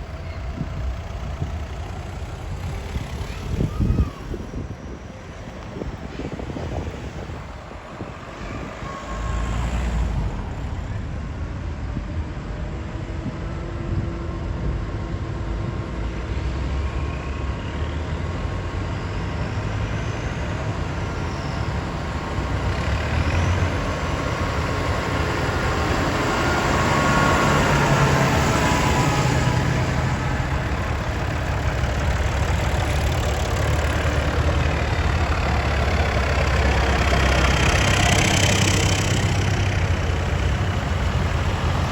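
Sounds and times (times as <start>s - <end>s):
tractor engines running: 0.0s - 41.9s.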